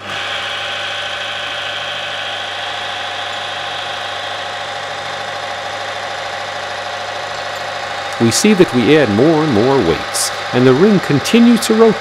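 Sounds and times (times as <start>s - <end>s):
friction tester motor humming: 0.0s - 12.0s.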